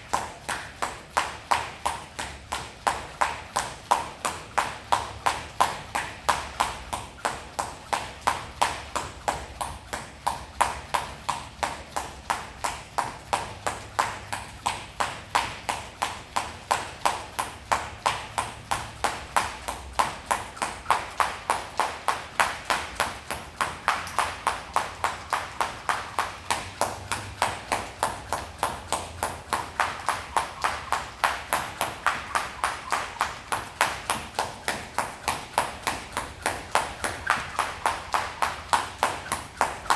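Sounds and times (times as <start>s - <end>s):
jump rope slapping floor: 0.0s - 39.9s.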